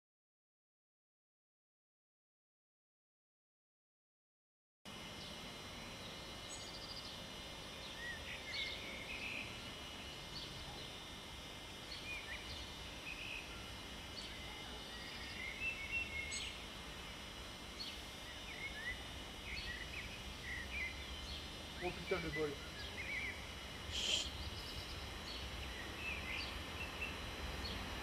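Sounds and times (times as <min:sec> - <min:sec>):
birds chirping and twittering: 0:04.9 - 0:28.0
steady background hiss: 0:04.9 - 0:28.0.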